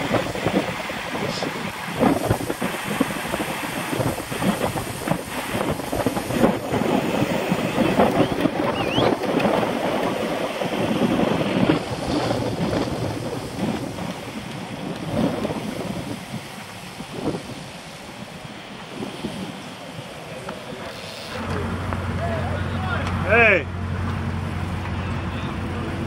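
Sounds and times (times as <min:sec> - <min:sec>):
wind buffeting microphone: 0:00.0 - 0:23.6.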